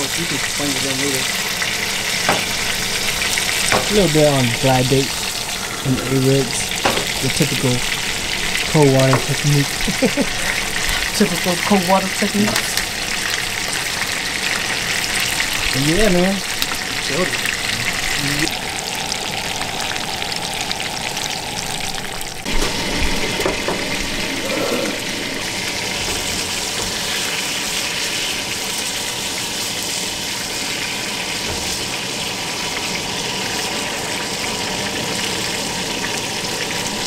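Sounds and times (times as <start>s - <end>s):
fish fillets sizzling in oil: 0.0s - 37.0s.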